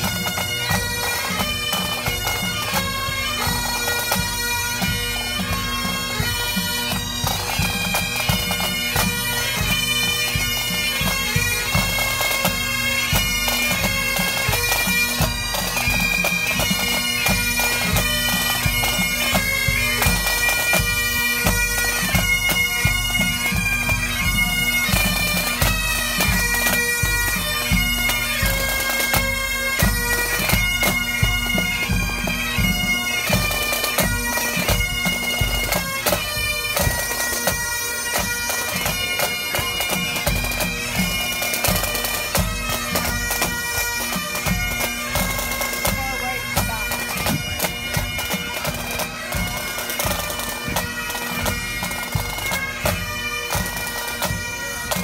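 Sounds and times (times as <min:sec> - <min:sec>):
bagpipes playing a tune: 0:00.0 - 0:55.0.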